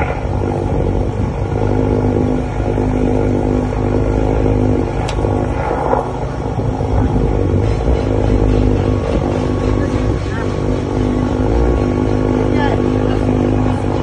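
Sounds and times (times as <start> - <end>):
pump motor humming drone: 0.0 - 14.0.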